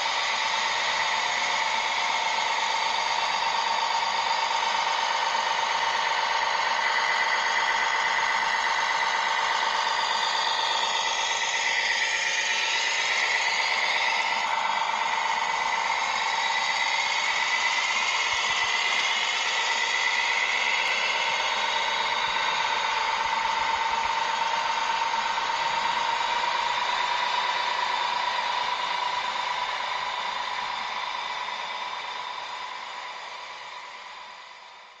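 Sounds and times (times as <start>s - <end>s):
small electric motor whining: 0.0s - 35.0s.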